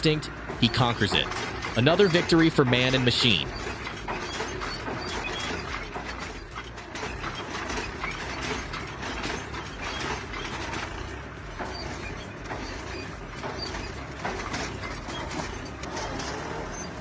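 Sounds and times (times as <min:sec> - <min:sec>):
machinery low drone: 0:00.0 - 0:17.0
metal clanking and rattling: 0:00.0 - 0:17.0.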